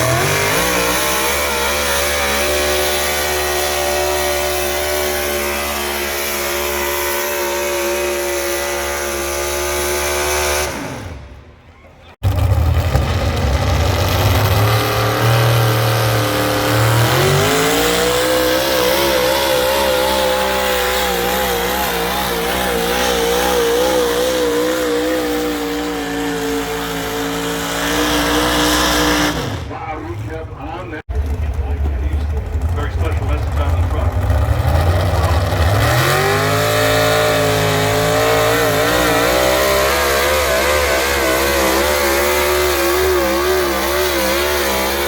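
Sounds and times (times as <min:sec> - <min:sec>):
tractor engine labouring: 0:00.0 - 0:45.0.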